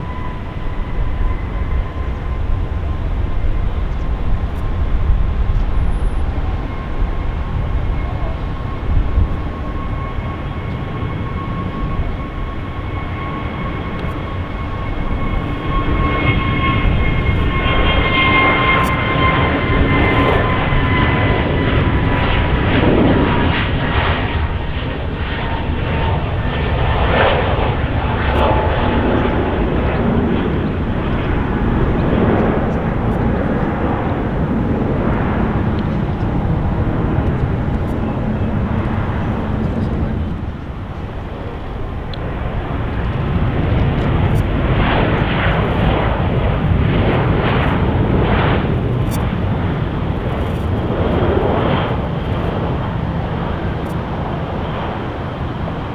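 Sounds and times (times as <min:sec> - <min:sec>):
jet engine whine: 0:00.0 - 0:55.9.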